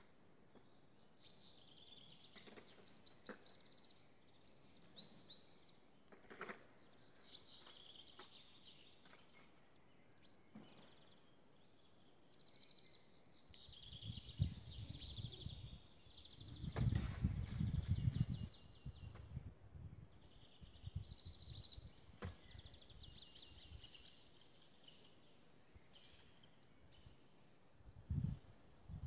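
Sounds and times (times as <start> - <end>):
songbirds chirping and trilling: 0.0 - 29.0.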